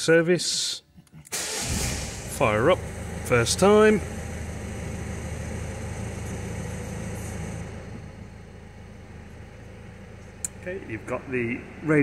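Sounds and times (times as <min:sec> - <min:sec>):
diesel engine idling: 0:01.4 - 0:12.0.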